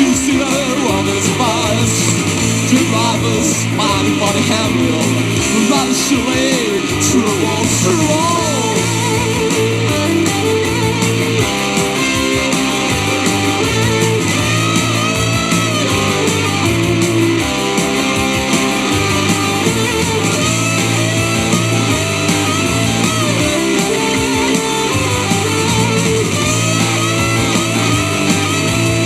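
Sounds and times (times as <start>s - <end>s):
electric guitar bending notes: 0.0s - 29.0s
rock and roll band playing: 0.0s - 29.0s.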